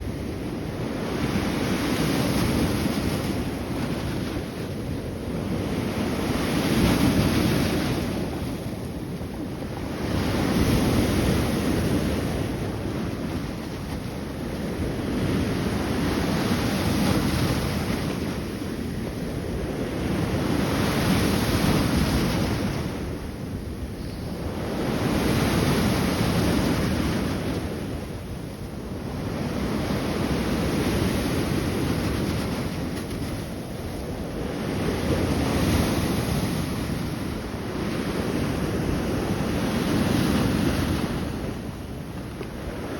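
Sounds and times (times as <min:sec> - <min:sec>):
sea waves breaking: 0:00.1 - 0:42.9.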